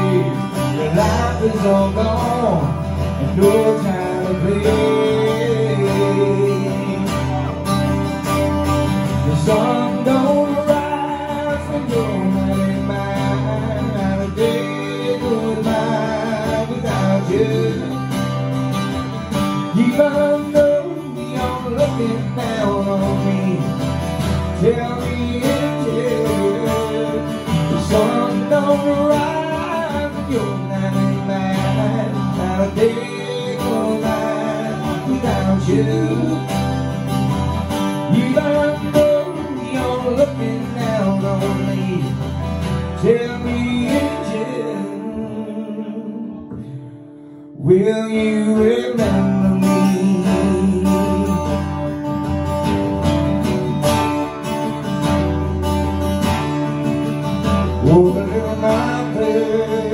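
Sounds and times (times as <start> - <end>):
acoustic guitars playing: 0.0 - 59.9.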